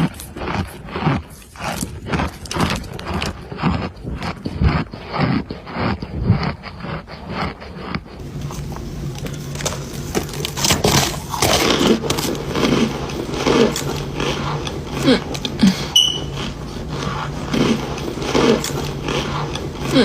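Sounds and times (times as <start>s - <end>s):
crunchy chewing: 0.0s - 20.0s
steady low hum: 0.0s - 20.0s.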